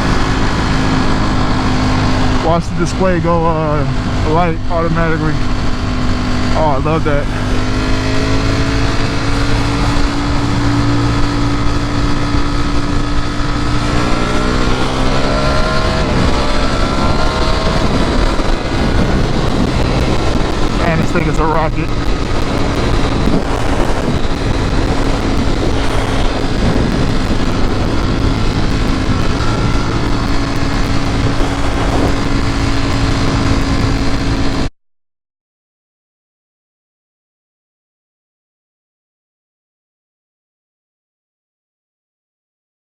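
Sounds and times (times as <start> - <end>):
motorcycle engine accelerating: 0.0 - 34.7
wind noise: 0.0 - 34.7.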